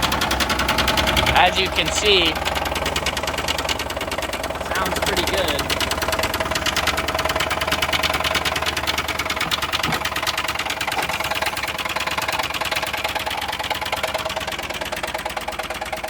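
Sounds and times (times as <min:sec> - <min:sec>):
engine idling with ticking knock: 0:00.0 - 0:16.0.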